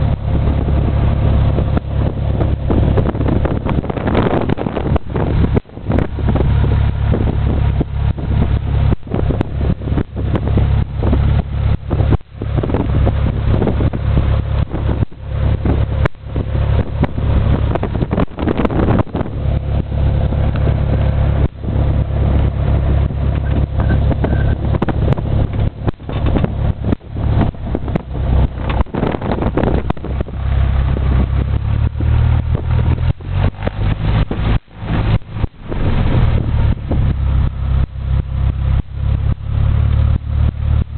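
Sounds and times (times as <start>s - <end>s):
light aircraft engine drone: 0.0s - 40.9s
wind buffeting microphone: 0.0s - 40.9s.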